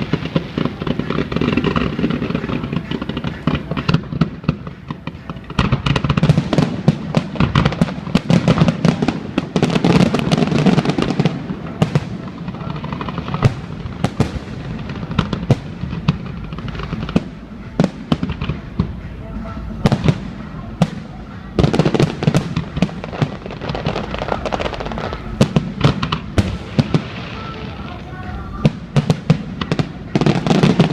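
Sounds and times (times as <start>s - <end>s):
fireworks bursting and crackling: 0.0s - 30.9s.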